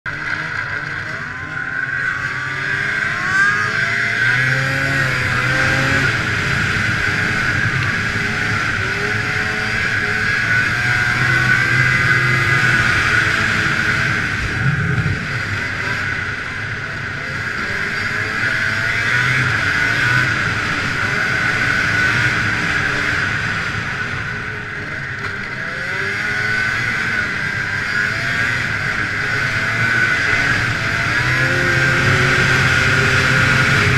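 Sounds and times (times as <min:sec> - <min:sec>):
snowmobile engine revving: 0:00.1 - 0:33.9.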